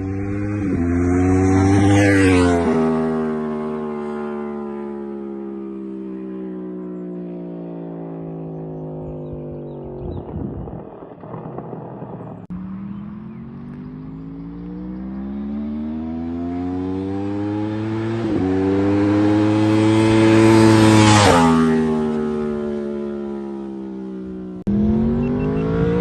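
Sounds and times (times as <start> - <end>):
motorcycle engine accelerating past: 0.0 - 26.0.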